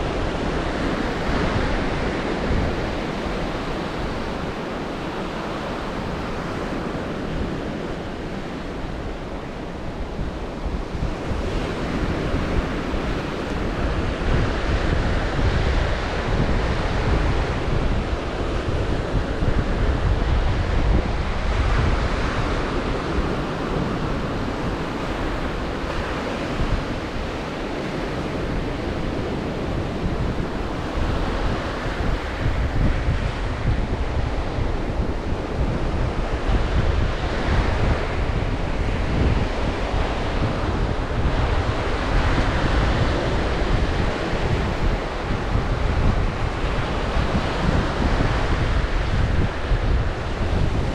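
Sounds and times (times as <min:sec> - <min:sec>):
waves breaking on shore: 0:00.0 - 0:50.9
wind buffeting microphone: 0:00.0 - 0:50.9.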